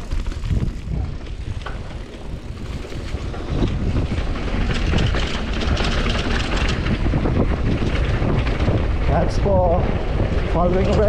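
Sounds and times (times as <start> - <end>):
mountain bike rattle and tyre noise: 0.0 - 11.0
wind buffeting microphone: 0.0 - 11.0.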